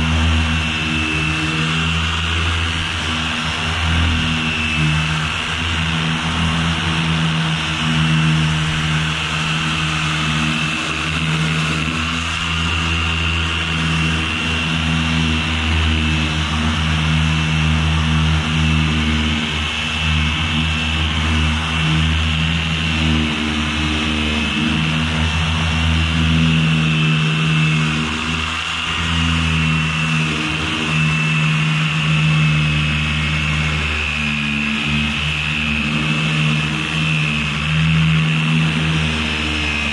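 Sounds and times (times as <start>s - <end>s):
orbital sander whining: 0.0s - 39.9s.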